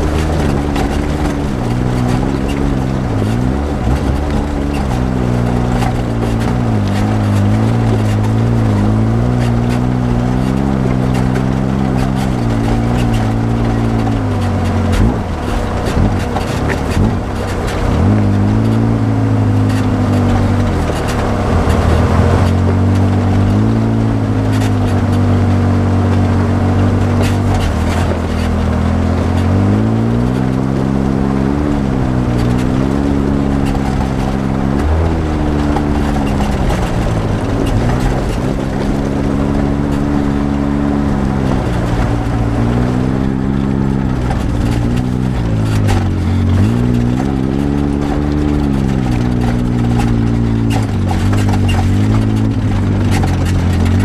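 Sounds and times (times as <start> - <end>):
knocks and rattles on rough ground: 0.0 - 54.0
utility vehicle engine running: 0.0 - 54.0.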